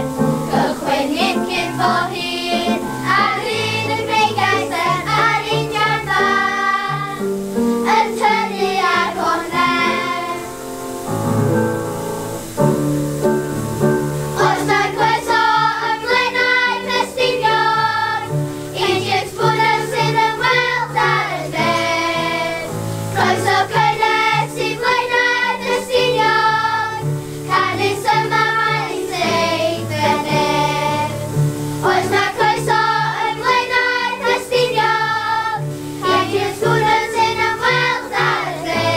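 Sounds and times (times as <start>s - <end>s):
children's choir singing: 0.0s - 11.0s, 14.1s - 38.9s
instrumental accompaniment: 0.0s - 38.9s.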